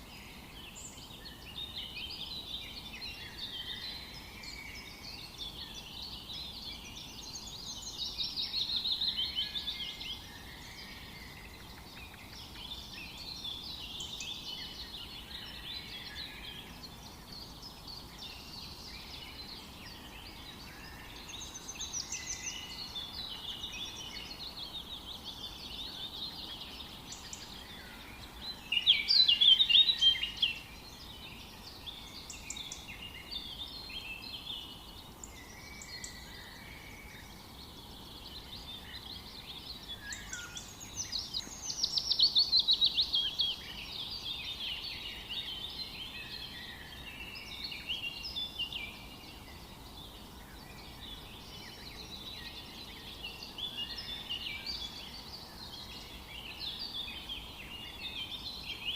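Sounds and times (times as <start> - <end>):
forest birds chirping: 0.0 - 58.9.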